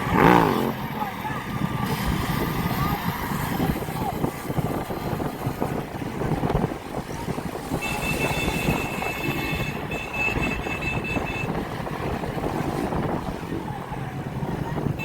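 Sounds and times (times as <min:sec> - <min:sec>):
vehicle traffic: 0:00.0 - 0:15.0
wind buffeting microphone: 0:00.0 - 0:15.0.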